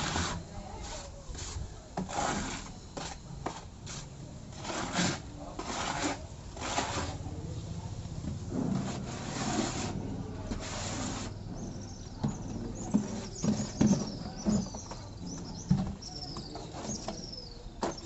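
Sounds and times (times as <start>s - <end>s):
hand tool scraping a wall: 0.0s - 7.3s, 8.5s - 17.3s.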